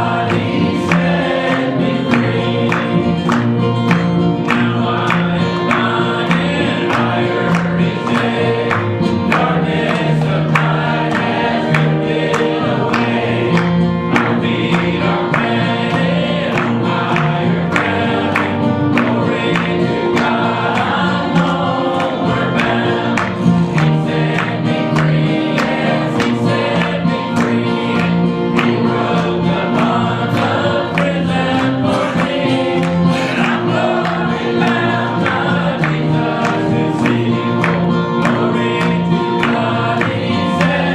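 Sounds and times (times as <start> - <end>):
congregation singing a hymn: 0.0 - 40.9
instrumental accompaniment: 0.0 - 40.9.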